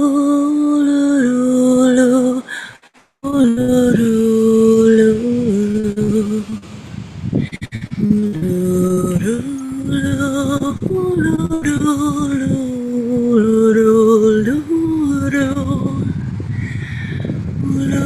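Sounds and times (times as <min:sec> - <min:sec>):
person singing wordlessly: 0:00.0 - 0:02.5, 0:03.2 - 0:18.0.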